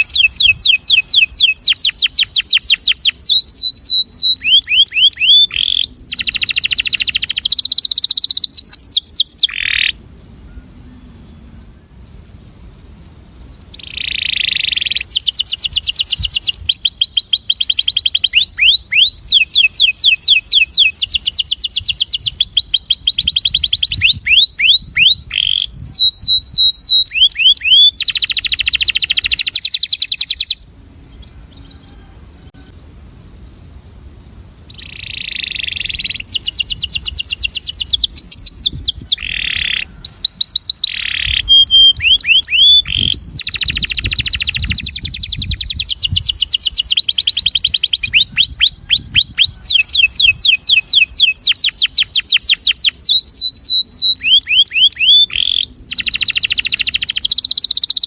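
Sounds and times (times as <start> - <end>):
canary singing trills: 0.0 - 33.2, 34.6 - 58.0.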